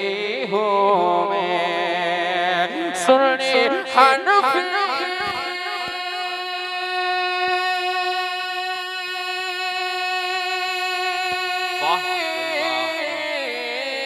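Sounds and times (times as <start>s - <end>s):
man singing long note: 0.0s - 14.0s.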